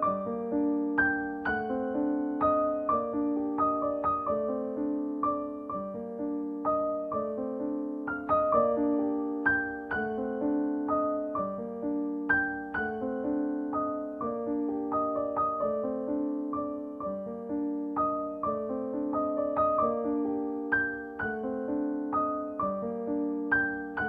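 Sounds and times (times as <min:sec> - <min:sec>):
calm piano piece: 0:00.0 - 0:24.0.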